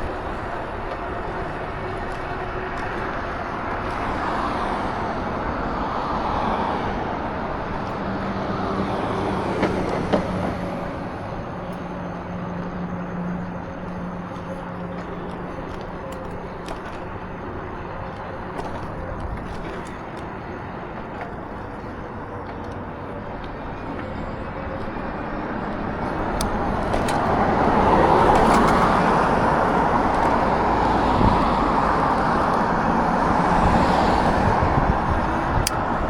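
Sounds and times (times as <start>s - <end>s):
engine hum: 0.0s - 36.0s
vehicle driving on road: 0.0s - 36.0s
wind noise: 0.0s - 36.0s.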